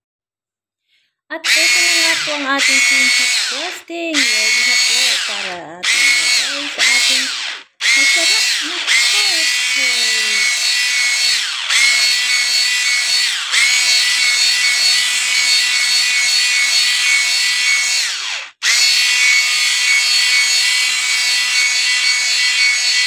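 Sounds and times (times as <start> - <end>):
electric hand mixer running: 1.3 - 23.0.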